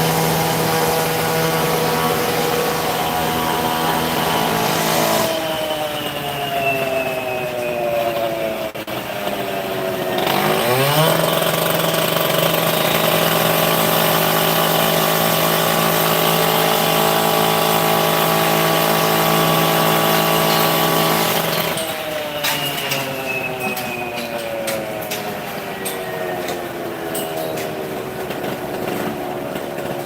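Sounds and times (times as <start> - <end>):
gas-powered saw engine revving: 0.0 - 30.0.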